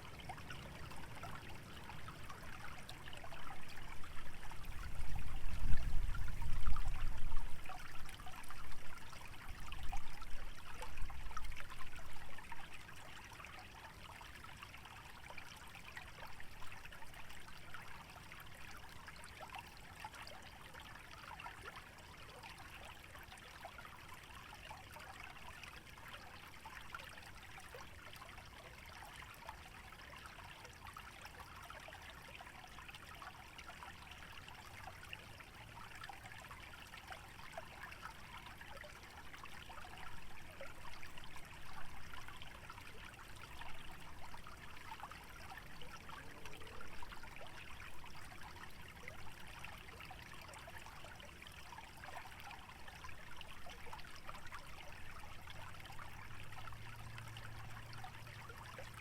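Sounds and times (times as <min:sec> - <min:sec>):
stream trickling and gurgling: 0:00.0 - 0:59.0.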